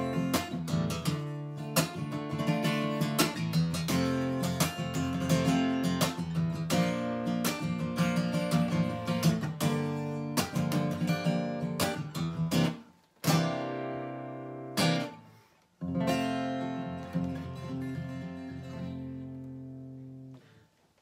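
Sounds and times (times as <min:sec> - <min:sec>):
acoustic guitar strumming: 0:00.0 - 0:20.5.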